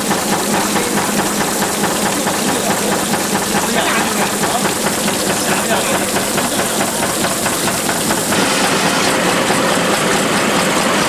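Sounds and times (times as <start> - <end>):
shaking table humming and clattering: 0.0 - 10.5
water flowing across deck: 0.0 - 11.0.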